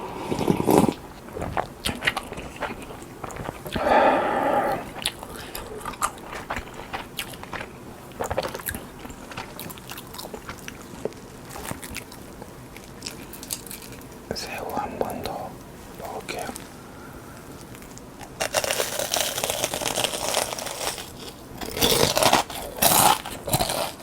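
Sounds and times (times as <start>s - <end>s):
crisp chewing and crackles: 0.0s - 24.0s.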